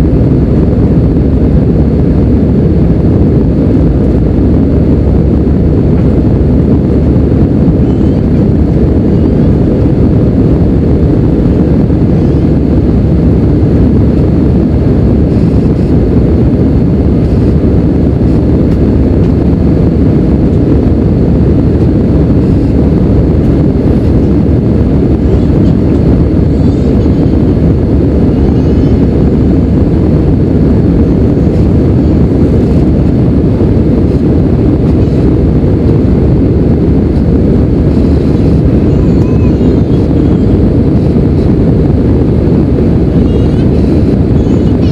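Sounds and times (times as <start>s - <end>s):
jet engines rumbling: 0.0s - 44.9s
rushing air in cabin: 0.0s - 44.9s.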